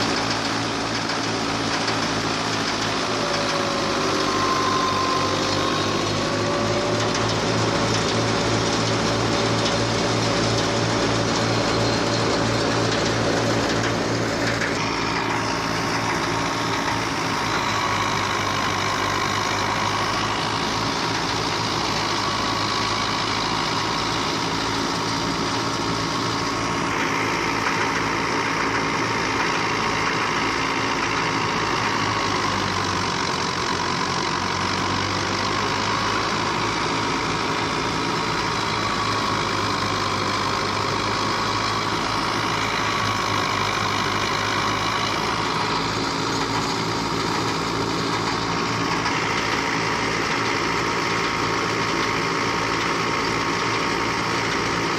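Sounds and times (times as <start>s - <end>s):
engine hum: 0.0s - 54.9s.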